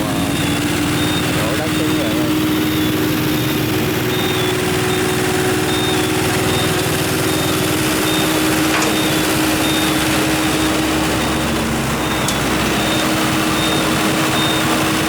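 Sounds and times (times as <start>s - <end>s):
dump truck engine running: 0.0s - 15.0s.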